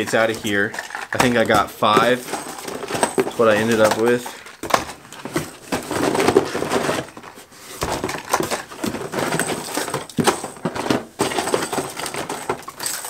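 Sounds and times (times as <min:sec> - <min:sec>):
plastic packs crinkling and clacking: 0:00.0 - 0:13.0.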